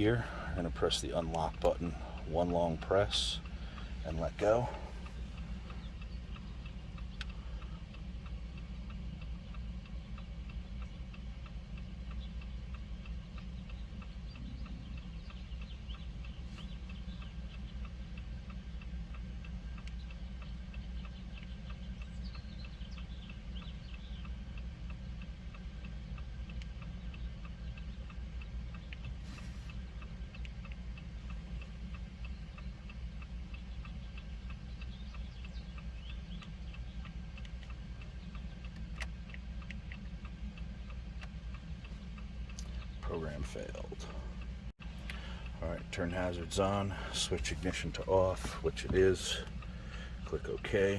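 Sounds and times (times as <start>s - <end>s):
hazard flasher ticking: 0.0s - 50.9s
low hum: 0.0s - 50.9s.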